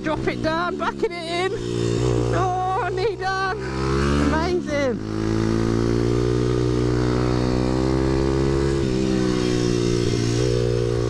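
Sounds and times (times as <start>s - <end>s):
loud motorbike engine pulling hard: 0.0s - 11.0s.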